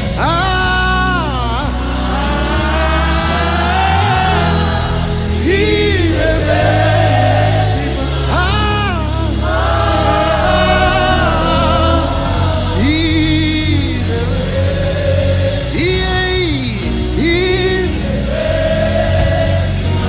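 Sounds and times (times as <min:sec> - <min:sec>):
lead voice singing: 0:00.0 - 0:20.0
low sustained notes: 0:00.0 - 0:20.0
choir singing: 0:01.0 - 0:20.0.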